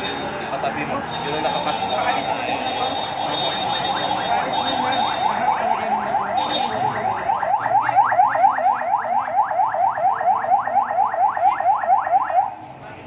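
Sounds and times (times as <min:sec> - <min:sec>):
siren in fast yelp mode: 0:01.6 - 0:12.6.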